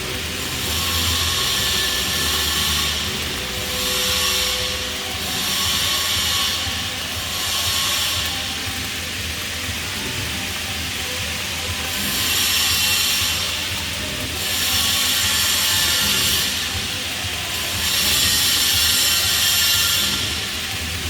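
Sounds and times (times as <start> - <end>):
welding arc hissing: 0.0 - 21.0.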